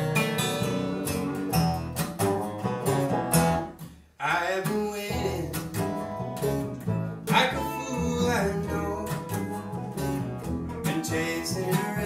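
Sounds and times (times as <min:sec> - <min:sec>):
acoustic guitar: 0:00.0 - 0:12.0
banjo: 0:00.0 - 0:12.0
resonator guitar: 0:00.0 - 0:12.0
upright bass: 0:00.0 - 0:12.0.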